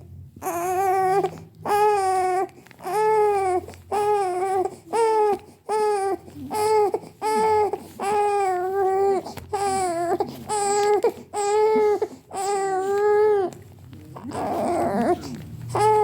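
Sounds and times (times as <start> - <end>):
baby crying: 0.4 - 13.6, 14.2 - 16.0.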